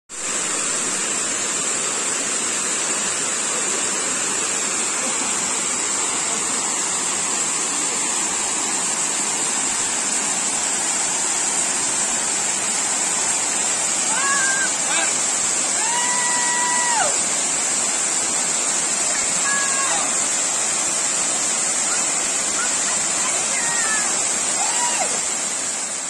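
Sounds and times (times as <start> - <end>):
high-pitched hiss: 0.2 - 26.0
waterfall rushing: 0.2 - 26.0.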